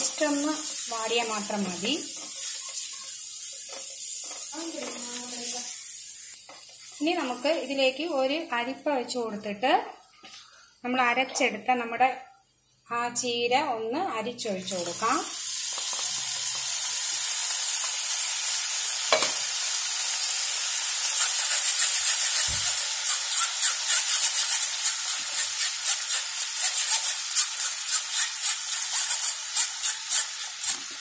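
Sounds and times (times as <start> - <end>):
butter sizzling in frying pan: 0.0 - 10.2, 14.4 - 31.0.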